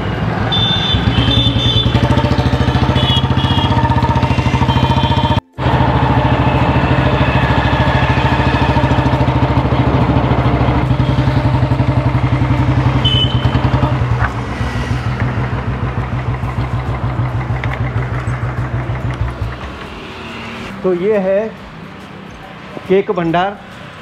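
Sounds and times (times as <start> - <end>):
motorcycle engine running: 0.5 - 21.4.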